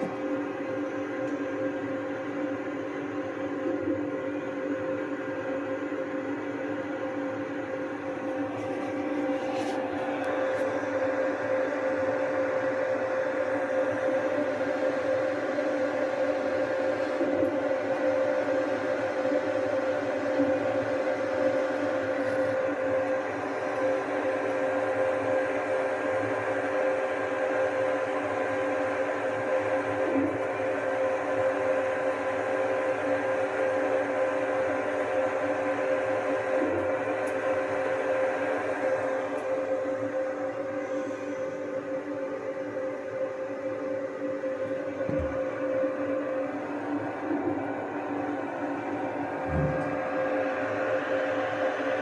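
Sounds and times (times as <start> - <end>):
exhaust fan running: 0.0 - 52.0
laser cutter hum: 0.0 - 52.0.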